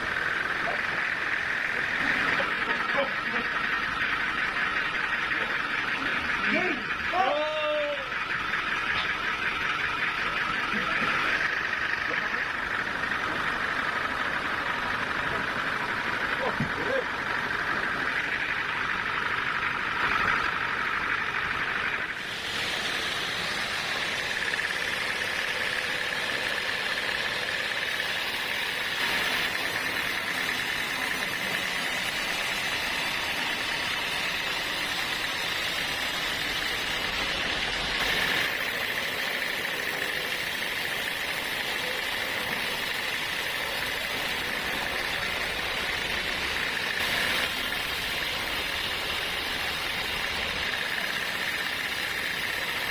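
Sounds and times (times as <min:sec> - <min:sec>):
machinery running: 0:00.0 - 0:52.9.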